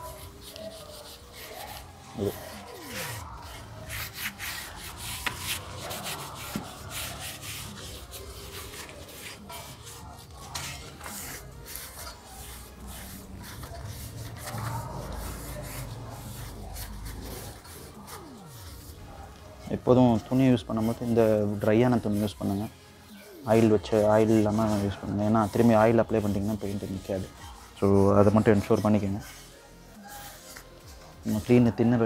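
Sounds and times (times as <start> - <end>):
cloth wiping metal rim: 0.0 - 32.0.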